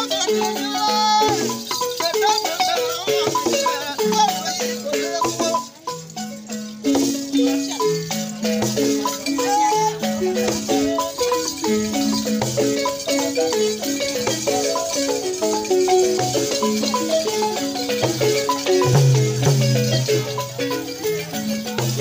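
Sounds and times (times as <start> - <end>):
shaken rattle hissing: 0.0 - 22.0
wooden xylophones playing fast rhythm: 0.0 - 22.0.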